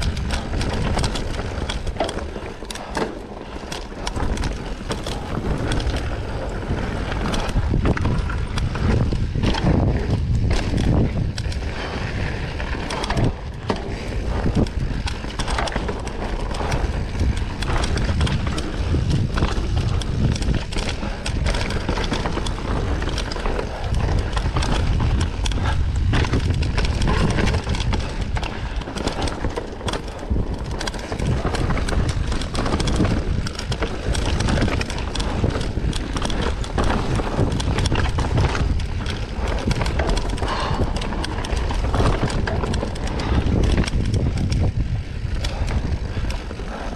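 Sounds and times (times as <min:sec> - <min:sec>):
bike rattling over rocks: 0:00.0 - 0:46.9.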